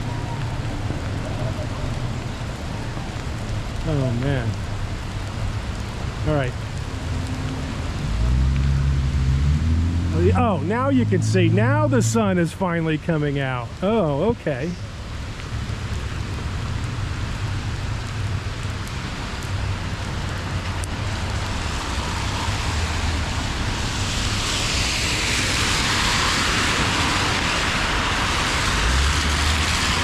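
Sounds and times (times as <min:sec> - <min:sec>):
traffic rumble with tyre hiss: 0:00.0 - 0:30.0
vehicle passing on wet road: 0:00.0 - 0:30.0.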